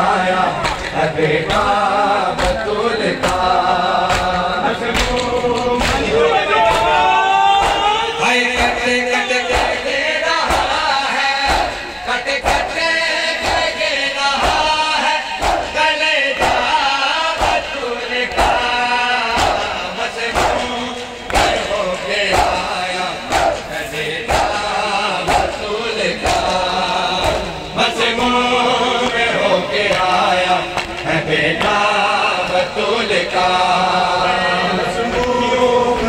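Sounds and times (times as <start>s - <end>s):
crowd beating chests: 0.0s - 33.6s
men chanting a refrain: 0.0s - 36.0s.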